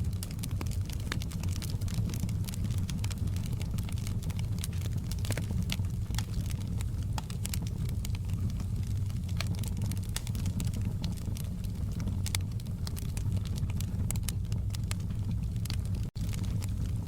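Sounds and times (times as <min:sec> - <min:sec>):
log fire crackling: 0:00.0 - 0:17.0
low fire rumble: 0:00.0 - 0:17.0.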